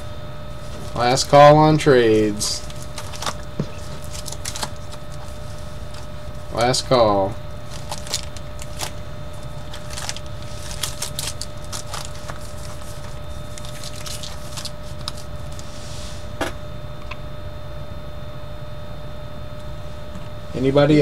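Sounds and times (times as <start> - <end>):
faint high whine: 0.0 - 21.0
steady low hum: 0.0 - 21.0.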